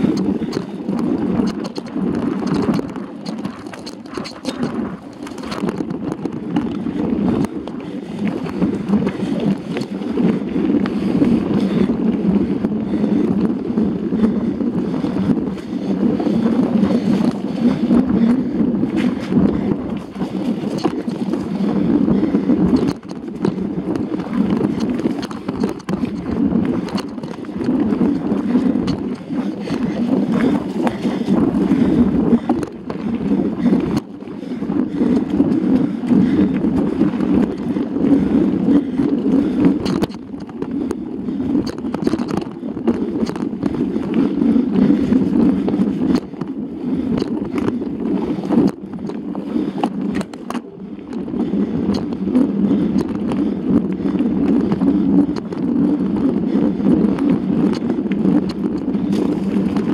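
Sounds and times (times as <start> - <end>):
bike rattling over rocks: 0.0 - 59.9
wind rushing over microphone: 0.0 - 59.9.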